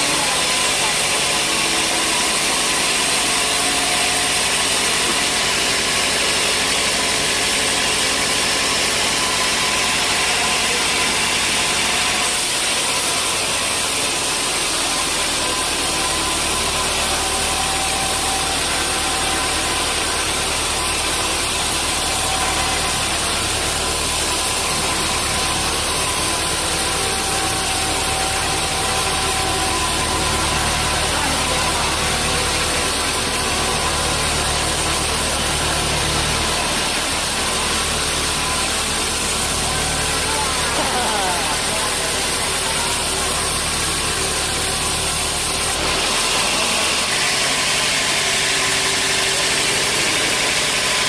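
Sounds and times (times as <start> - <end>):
sawmill machinery running: 0.0 - 51.0.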